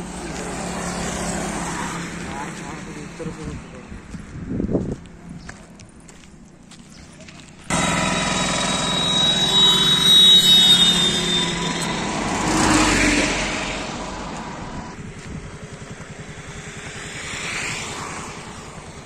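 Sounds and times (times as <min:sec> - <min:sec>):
motorcycle passing by: 0:00.0 - 0:06.1, 0:06.9 - 0:19.0.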